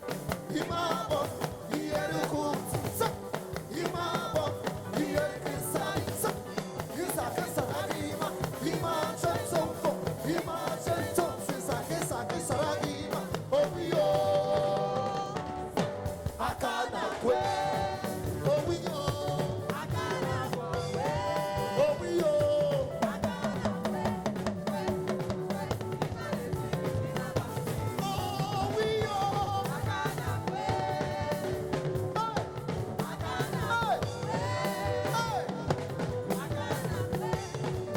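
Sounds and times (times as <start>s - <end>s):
live gospel band music: 0.0s - 37.9s
steady drum beat: 0.0s - 37.9s
sung vocal lines: 0.0s - 37.9s
keyboard or horn lines: 0.1s - 37.9s.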